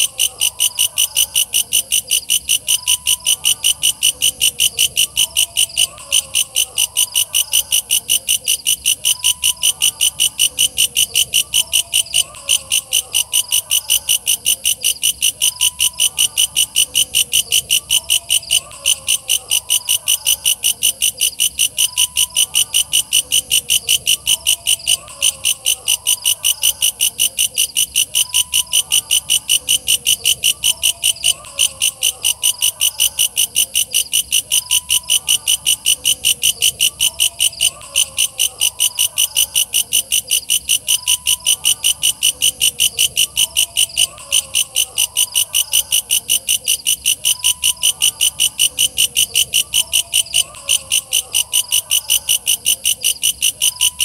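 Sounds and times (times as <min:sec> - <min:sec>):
katydid calling: 0:00.0 - 0:54.0.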